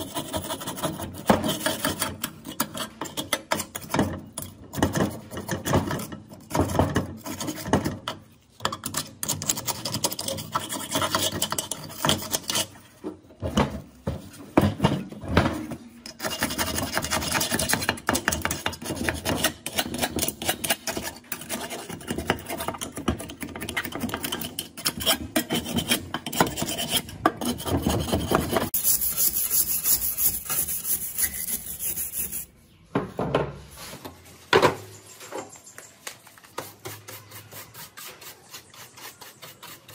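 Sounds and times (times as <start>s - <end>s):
hand scraping and rubbing metal: 0.0s - 32.8s, 33.6s - 39.9s.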